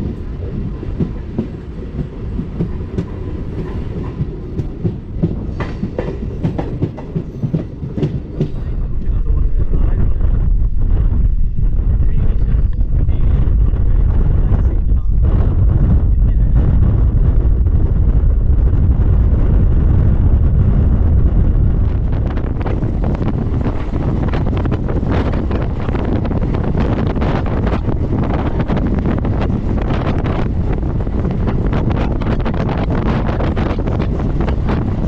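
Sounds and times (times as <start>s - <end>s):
train low rumble: 0.0s - 35.0s
wind buffeting microphone: 0.0s - 35.0s.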